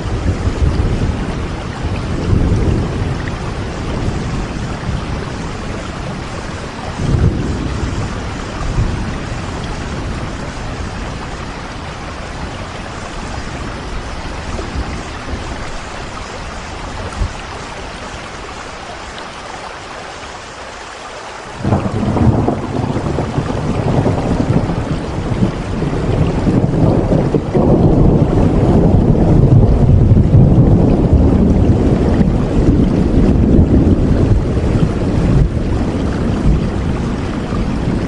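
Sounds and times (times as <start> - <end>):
thunder rumbling: 0.0 - 19.0, 21.6 - 38.0
steady rain: 0.0 - 38.0.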